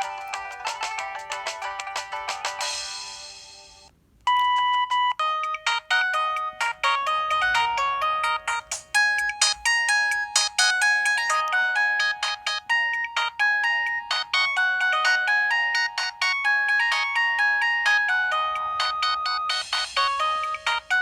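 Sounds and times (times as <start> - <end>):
mobile phone ringtone melody: 0.0 - 21.0.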